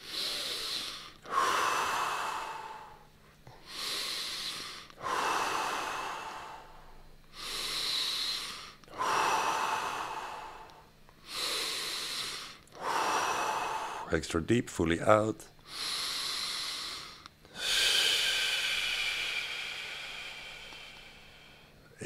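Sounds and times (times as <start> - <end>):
person breathing deeply: 0.0 - 14.2, 15.6 - 22.0.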